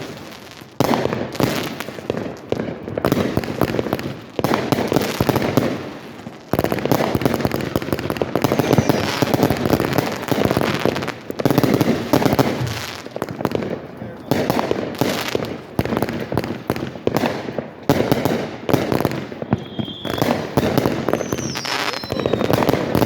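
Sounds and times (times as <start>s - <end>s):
firework bangs: 0.0s - 23.0s
firework crackling: 0.0s - 23.0s.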